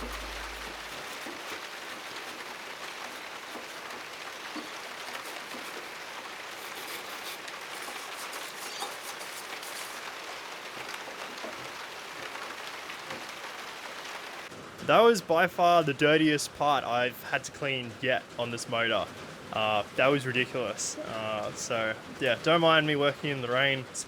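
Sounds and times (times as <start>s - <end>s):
steady rain pattering: 0.0s - 24.0s.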